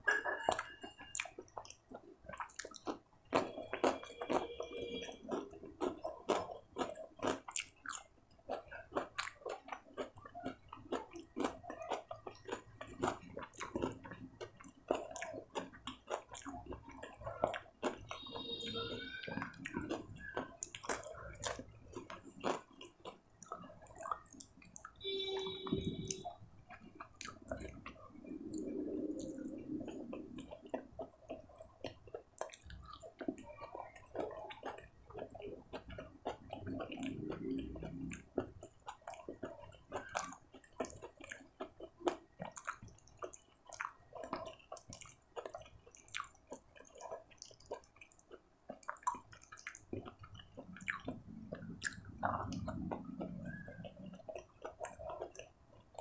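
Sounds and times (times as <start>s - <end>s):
pitched mouth sounds: 0.0s - 41.5s, 48.7s - 56.0s
person chewing food: 0.0s - 56.0s.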